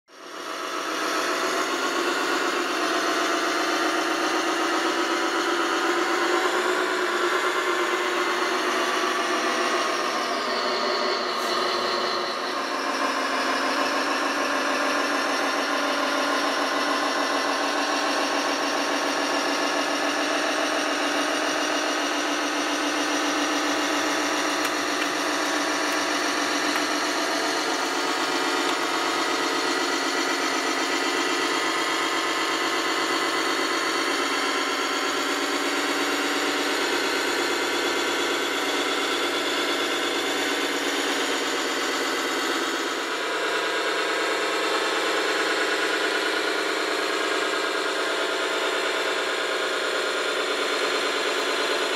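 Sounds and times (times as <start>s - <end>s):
model crane motor drone: 0.1s - 51.9s.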